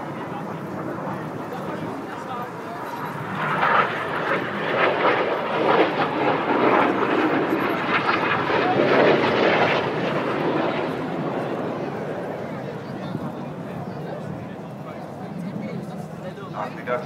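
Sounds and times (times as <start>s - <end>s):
jets passing low: 0.0s - 17.0s.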